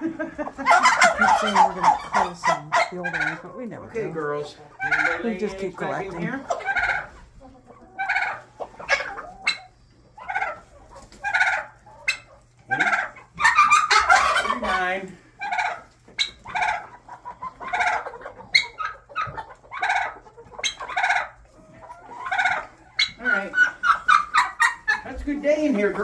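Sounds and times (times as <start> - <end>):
hens calling: 0.0 - 26.0.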